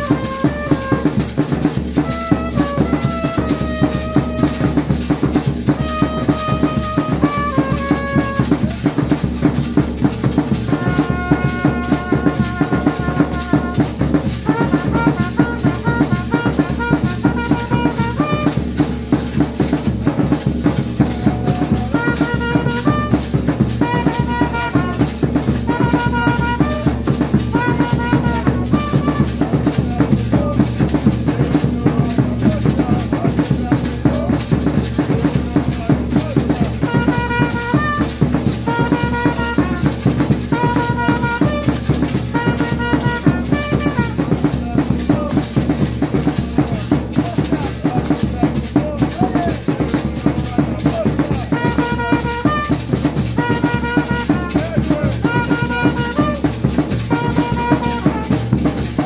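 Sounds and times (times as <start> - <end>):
large drums beaten in rhythm: 0.0 - 59.0
trumpet melody: 0.0 - 59.0.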